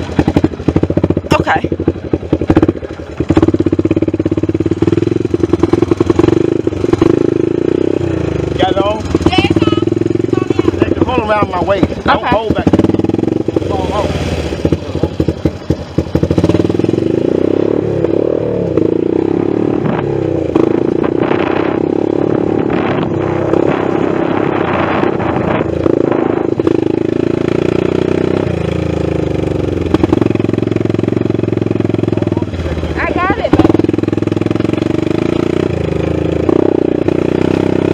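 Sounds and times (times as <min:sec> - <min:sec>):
atv engine under throttle: 0:00.0 - 0:37.9.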